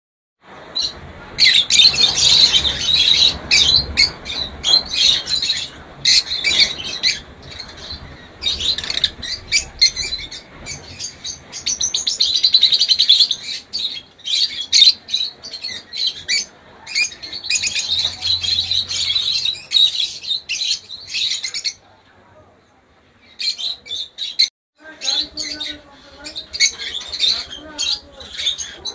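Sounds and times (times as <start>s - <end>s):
lovebirds chirping: 0.5s - 28.9s.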